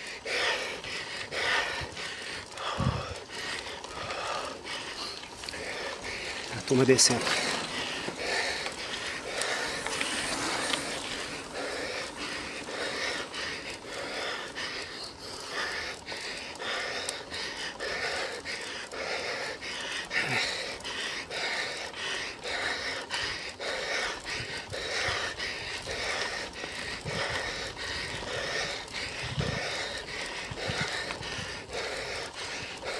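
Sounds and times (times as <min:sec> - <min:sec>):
person panting heavily: 0:00.0 - 0:32.9.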